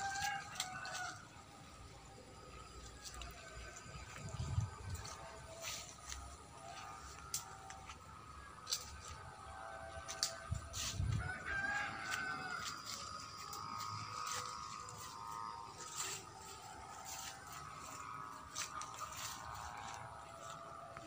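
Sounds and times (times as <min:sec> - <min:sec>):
rooster crowing: 0:00.0 - 0:06.0, 0:06.6 - 0:21.0.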